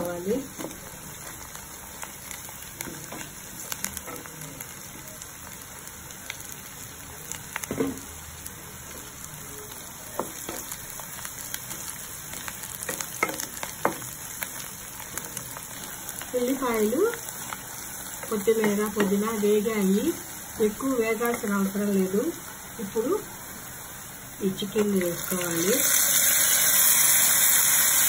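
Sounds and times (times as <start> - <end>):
food sizzling in oil: 0.0 - 28.0.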